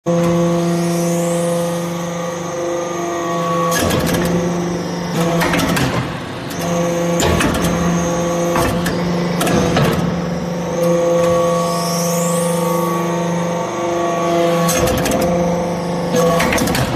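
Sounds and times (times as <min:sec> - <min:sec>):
hydraulic press motor hum: 0:00.1 - 0:16.9.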